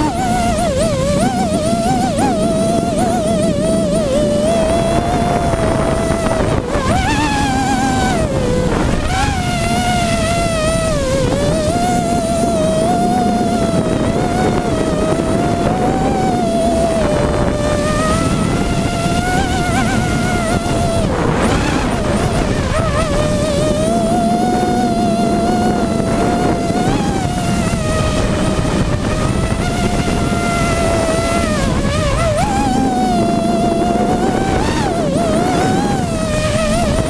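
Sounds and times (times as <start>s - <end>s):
drone motors and propellers whining: 0.0s - 37.0s.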